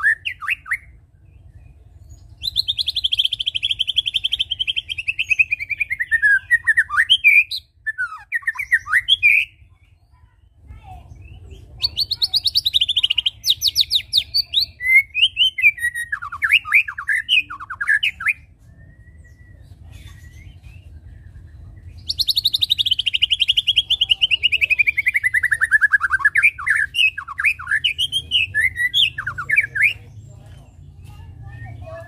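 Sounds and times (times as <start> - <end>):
songbird singing trills and whistles: 0.0 - 32.0.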